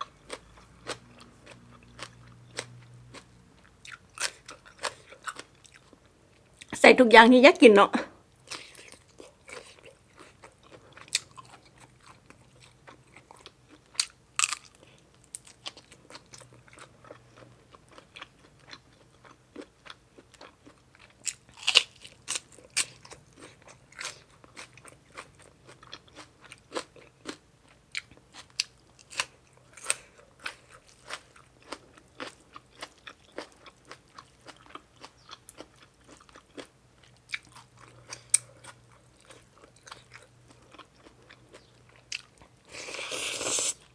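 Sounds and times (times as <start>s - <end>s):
person chewing crunchy food: 0.0s - 6.7s, 8.4s - 43.9s.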